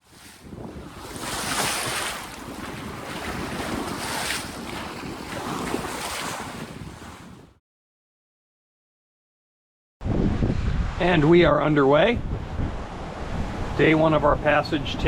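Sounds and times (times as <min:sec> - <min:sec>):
water rushing along hull: 0:00.0 - 0:07.6, 0:10.0 - 0:15.0
wind buffeting microphone: 0:00.0 - 0:07.6, 0:10.0 - 0:15.0.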